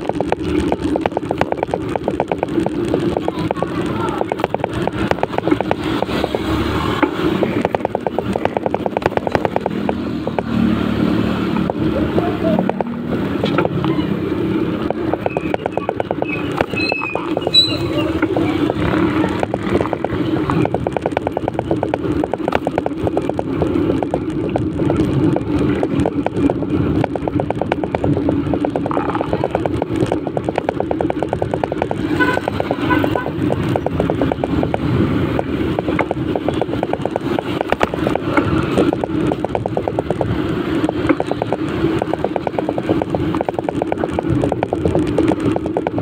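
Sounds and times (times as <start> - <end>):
motorcycle engine running: 0.0 - 46.0
road noise: 0.0 - 46.0.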